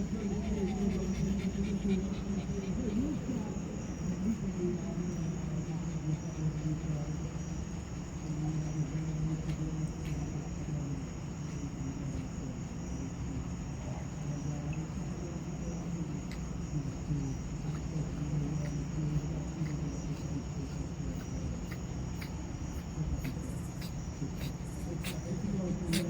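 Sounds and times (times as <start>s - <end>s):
constant low hum: 0.0s - 26.0s
crickets chirping: 0.0s - 26.0s.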